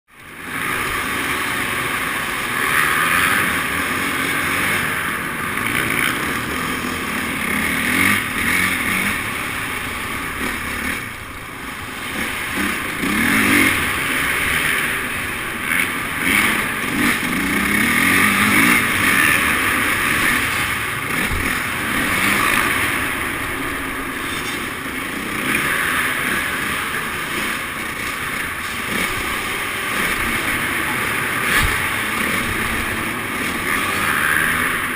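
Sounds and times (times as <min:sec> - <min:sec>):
motorcycle engines revving: 0:00.1 - 0:34.9.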